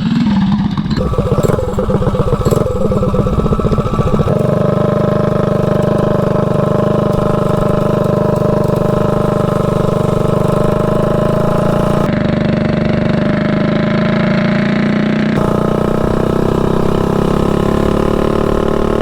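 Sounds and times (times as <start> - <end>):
mini bike engine running: 0.0 - 19.0.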